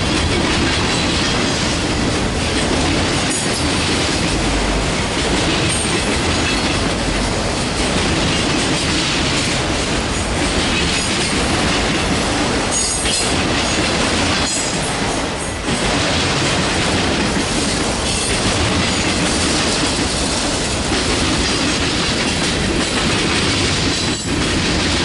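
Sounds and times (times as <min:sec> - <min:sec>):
steel wheels clattering over rails: 0:00.0 - 0:25.0.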